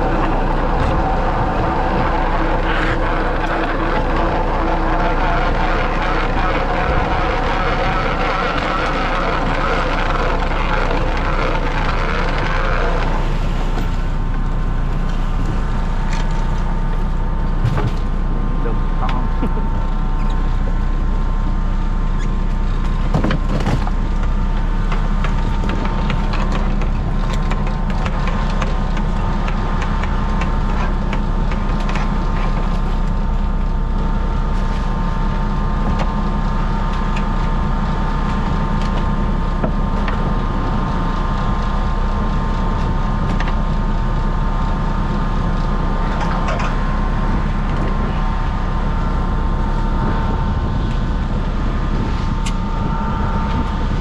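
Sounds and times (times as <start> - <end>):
boat engine droning: 0.0 - 54.0
engine whine: 0.0 - 54.0.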